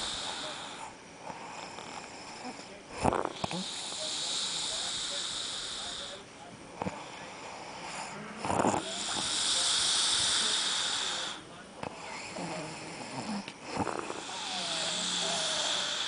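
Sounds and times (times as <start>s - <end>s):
person snoring: 0.0s - 6.2s, 6.8s - 11.4s, 12.0s - 16.0s.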